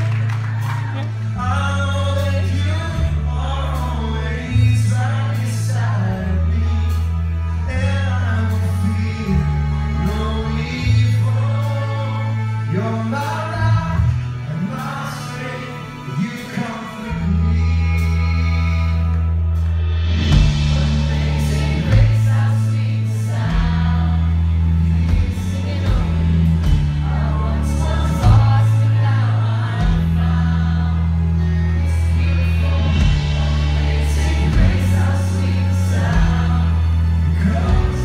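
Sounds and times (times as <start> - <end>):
heavy bass line: 0.0 - 38.0
pop-rock band playing: 0.0 - 38.0
man singing: 0.9 - 19.3, 20.2 - 38.0.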